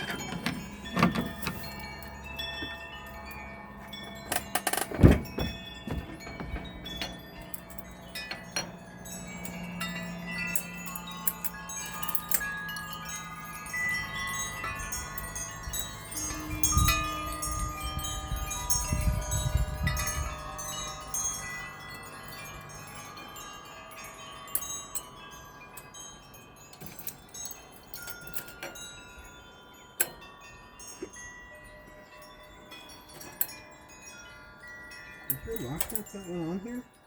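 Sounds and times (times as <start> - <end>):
wind chimes ringing: 0.0 - 37.0.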